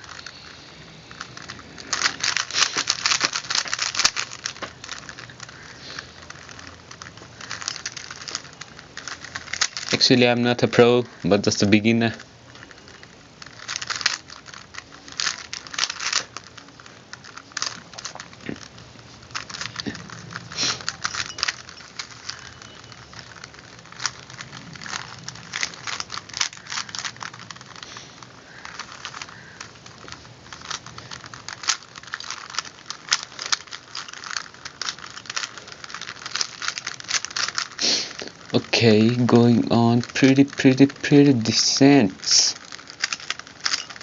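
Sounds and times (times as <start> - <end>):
puzzle cube clicking: 0.0 - 44.0.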